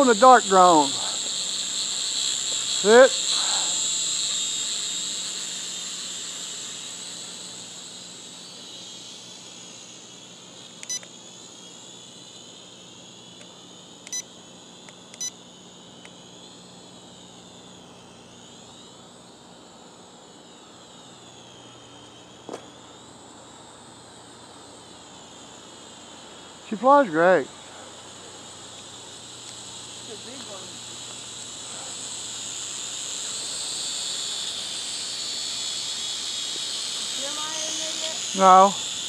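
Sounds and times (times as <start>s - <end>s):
drone propellers whining: 0.0s - 39.0s.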